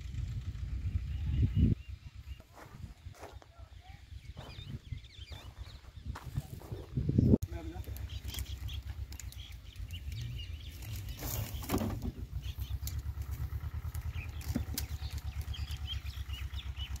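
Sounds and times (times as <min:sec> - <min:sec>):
tractor engine idling: 0:00.0 - 0:04.4, 0:07.5 - 0:17.0.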